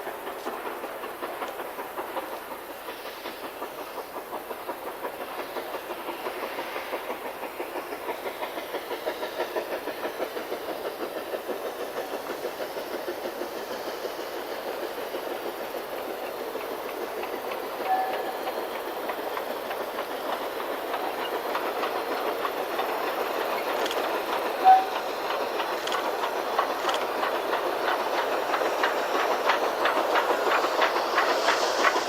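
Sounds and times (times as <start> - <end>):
steam hiss: 0.0 - 32.0
steam locomotive chuffing: 0.0 - 32.0.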